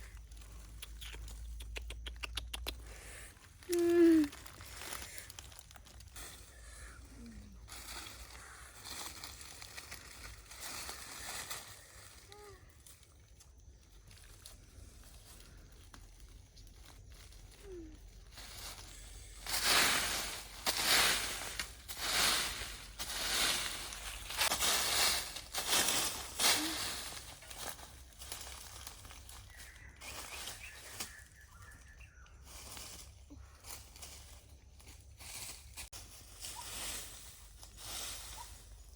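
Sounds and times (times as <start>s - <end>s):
leaves and plants rustling: 0.0s - 38.9s.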